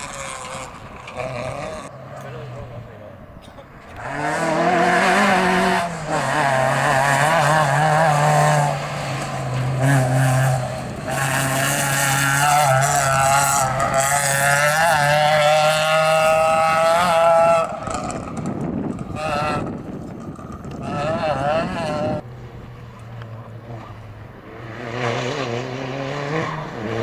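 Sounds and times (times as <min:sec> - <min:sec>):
rally car engine at high revs: 0:00.0 - 0:27.0.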